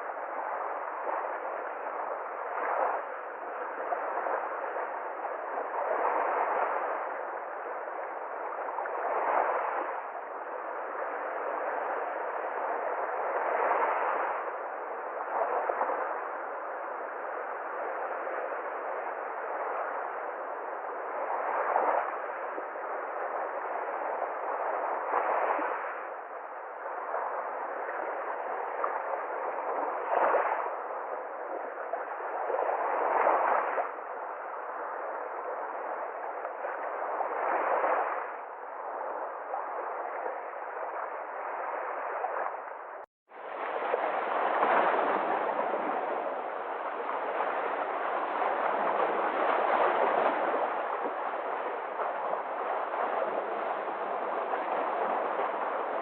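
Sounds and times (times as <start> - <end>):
sea waves surf: 0.0 - 56.0.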